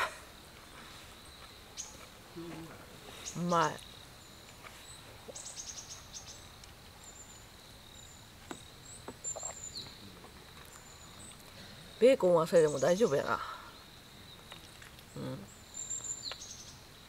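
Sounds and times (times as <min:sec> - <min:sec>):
bird and insect chirps: 0:00.0 - 0:17.0.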